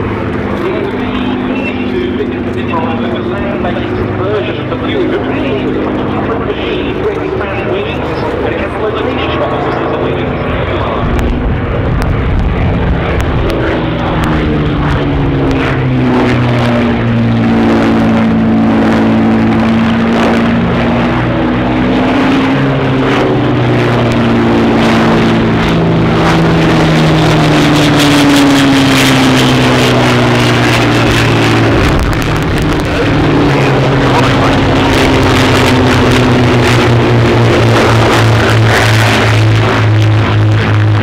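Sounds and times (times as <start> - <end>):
biplane engines droning: 0.0 - 41.0.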